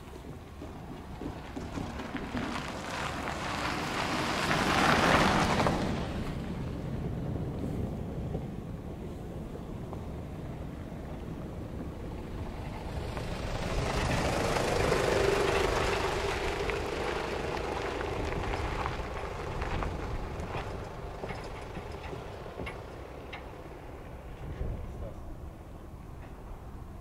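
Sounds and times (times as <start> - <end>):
motor vehicle passing: 0.0 - 27.0.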